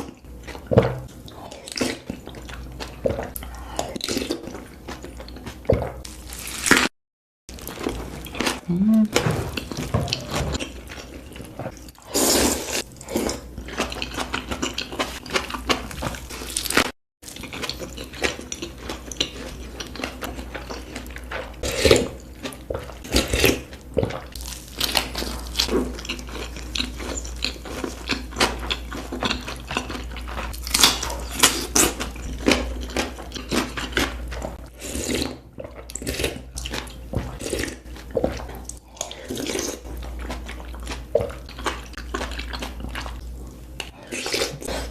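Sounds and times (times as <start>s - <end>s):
wet chewing and slurping: 7.7s - 44.9s.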